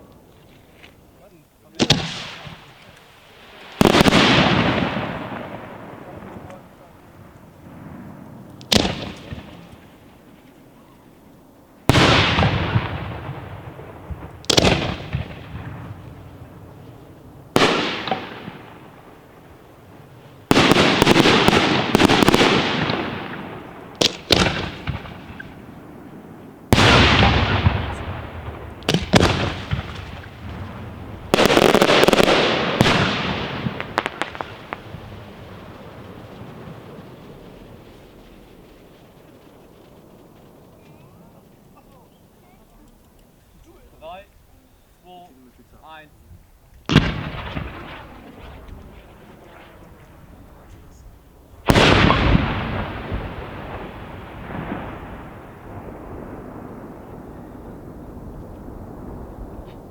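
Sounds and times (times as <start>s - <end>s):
fireworks bursting with loud bangs: 0.0s - 43.1s, 46.4s - 59.9s.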